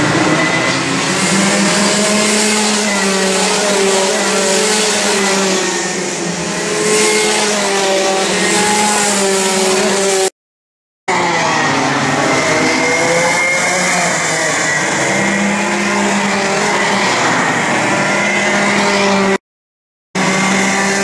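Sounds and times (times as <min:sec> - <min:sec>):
kart engines passing: 0:00.0 - 0:10.3, 0:11.1 - 0:19.4, 0:20.2 - 0:21.0.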